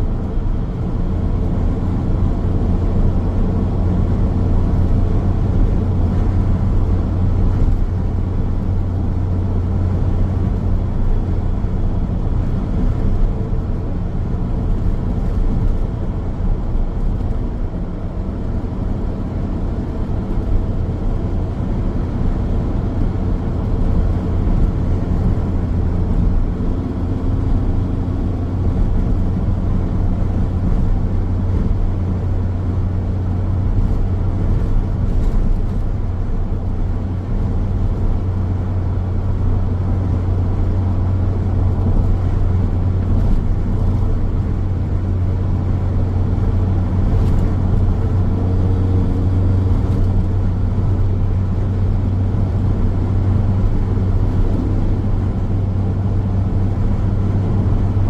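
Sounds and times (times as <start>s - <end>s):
car engine running: 0.0s - 58.0s
tyres rumbling on road: 0.0s - 58.0s.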